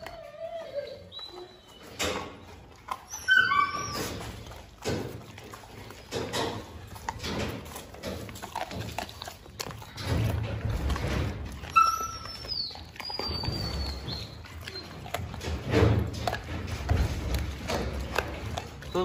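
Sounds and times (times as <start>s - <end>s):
dog chewing meat: 0.0s - 19.0s.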